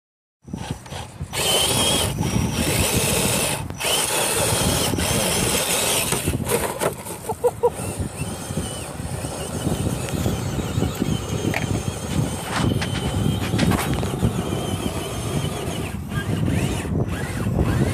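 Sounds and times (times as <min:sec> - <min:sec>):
electric motor whining: 0:00.4 - 0:17.9.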